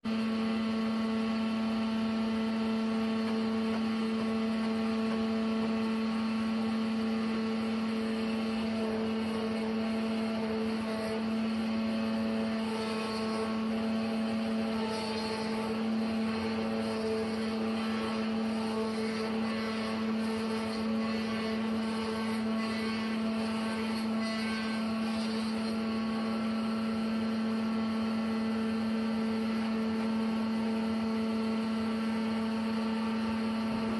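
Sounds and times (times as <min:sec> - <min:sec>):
sawmill machinery drone: 0:00.0 - 0:33.9.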